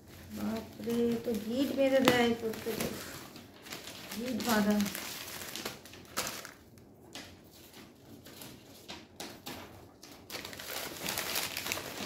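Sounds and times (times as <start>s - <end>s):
newspaper rustling and crinkling: 0.0s - 12.0s.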